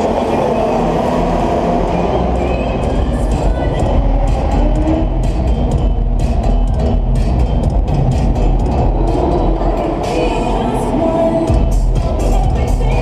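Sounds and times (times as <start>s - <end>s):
racing motorcycle engines droning: 0.0s - 13.0s.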